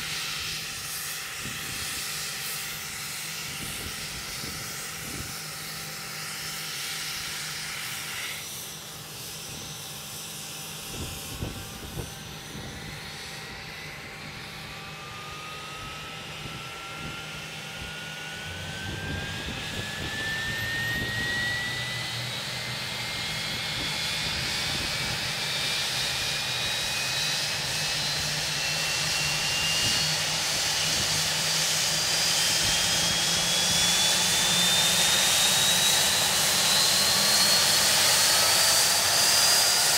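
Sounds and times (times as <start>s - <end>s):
jet engine whine spooling up: 0.0s - 39.9s.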